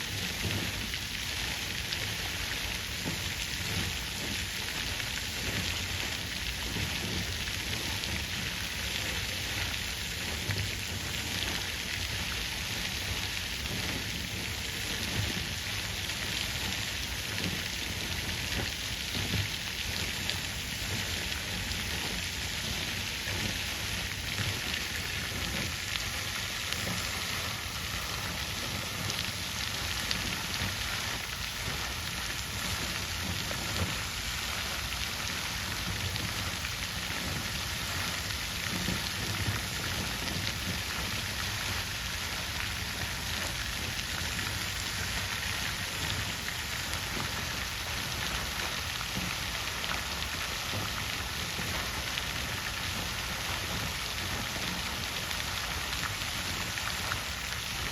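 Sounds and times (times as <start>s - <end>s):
water fountain splashing: 0.0s - 57.9s.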